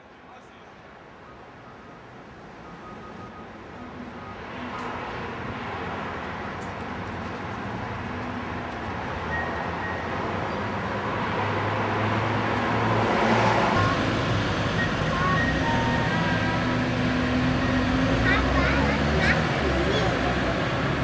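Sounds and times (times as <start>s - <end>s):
vehicle approaching: 2.6s - 21.0s.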